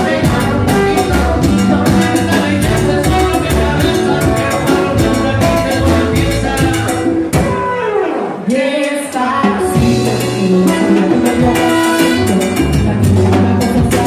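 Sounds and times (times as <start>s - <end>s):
hand percussion: 0.0s - 7.6s, 9.4s - 14.0s
trumpet: 0.0s - 8.8s, 9.7s - 14.0s
salsa band playing: 0.0s - 14.0s.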